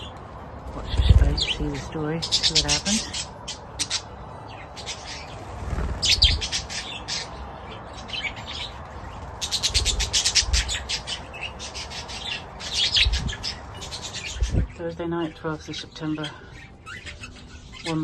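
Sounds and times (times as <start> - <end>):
budgerigars chirping: 0.8 - 18.0.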